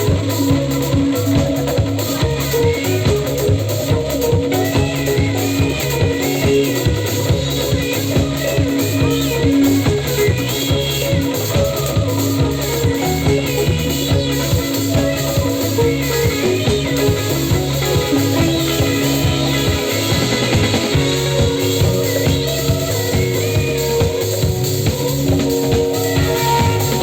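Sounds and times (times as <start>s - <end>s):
bass line: 0.0s - 27.0s
drum kit beat: 0.0s - 27.0s
electric guitar: 0.0s - 27.0s
keyboards: 0.0s - 27.0s
live band playing trance music: 0.0s - 27.0s.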